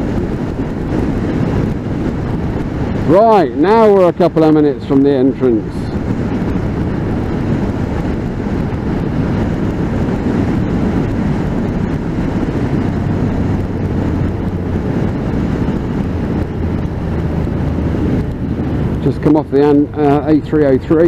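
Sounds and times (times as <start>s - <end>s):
motorcycle engine hum: 0.0s - 21.0s
wind and road noise: 0.0s - 21.0s.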